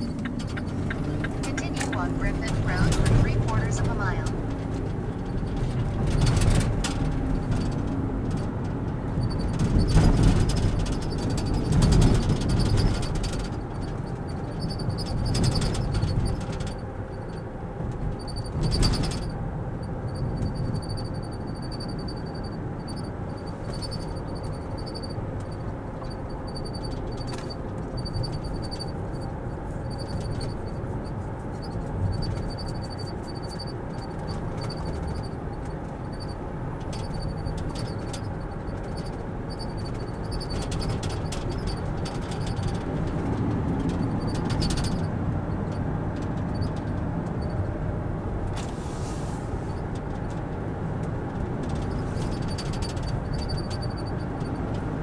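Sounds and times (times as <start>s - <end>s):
car cabin road rumble: 0.0s - 55.0s.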